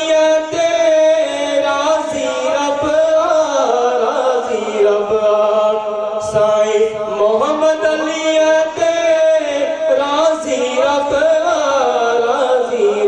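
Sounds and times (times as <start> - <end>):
man singing devotional chant: 0.0 - 13.0.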